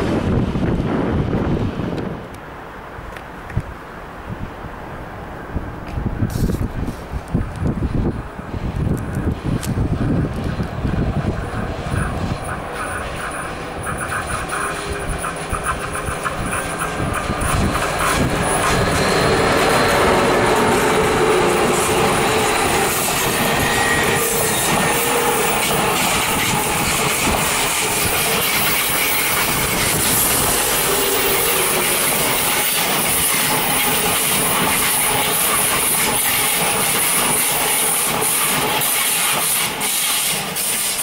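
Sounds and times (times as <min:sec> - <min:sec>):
train wheels rumbling on rail: 0:00.0 - 0:02.4, 0:05.4 - 0:41.0.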